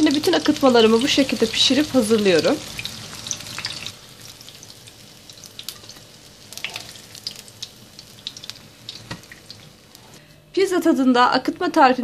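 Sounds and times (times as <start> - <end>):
oil sizzling in a frying pan: 0.0 - 10.2.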